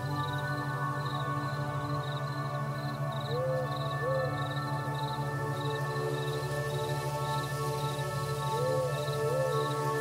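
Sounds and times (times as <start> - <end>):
ambient synth music: 0.0 - 10.0
crickets chirping: 0.0 - 10.0.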